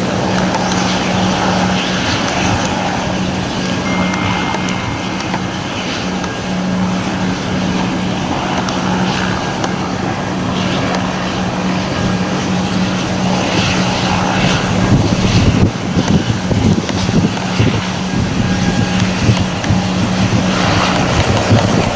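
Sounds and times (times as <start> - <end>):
constant low hum: 0.0 - 21.9
jet engines roaring: 0.0 - 21.9
low buffeting: 0.0 - 21.9.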